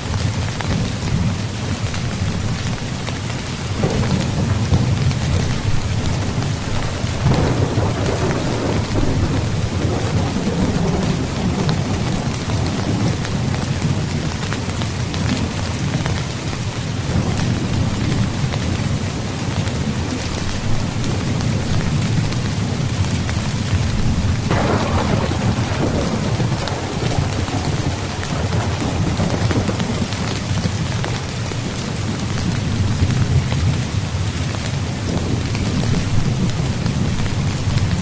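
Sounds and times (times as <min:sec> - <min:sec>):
heavy rain on tent fabric: 0:00.0 - 0:38.0.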